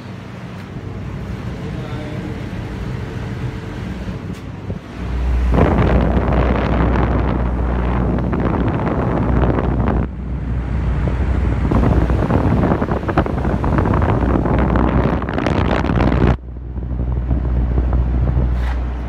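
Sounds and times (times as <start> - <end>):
air conditioner unit humming: 0.0 - 19.0
fan air blast buffeting microphone: 0.0 - 19.0.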